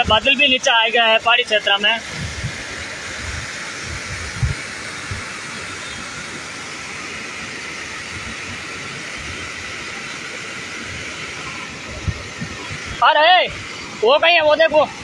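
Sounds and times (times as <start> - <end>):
water rushing over weir: 0.0 - 15.0.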